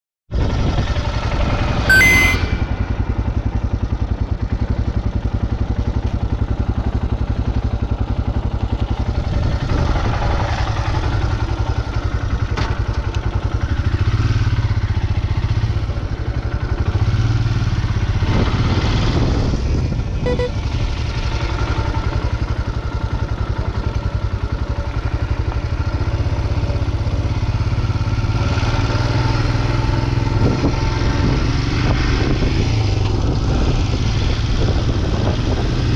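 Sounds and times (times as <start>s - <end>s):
motorcycle engine running: 2.7s - 35.9s.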